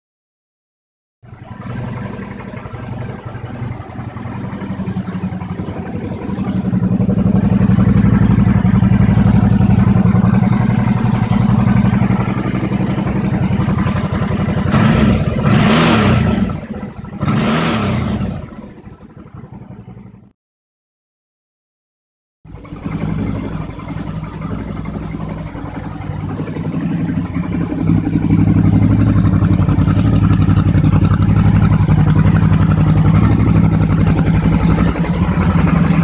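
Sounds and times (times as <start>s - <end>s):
motorcycle engine idling: 1.2s - 20.3s, 22.5s - 36.0s
motorcycle engine revving: 1.2s - 20.3s, 22.5s - 36.0s.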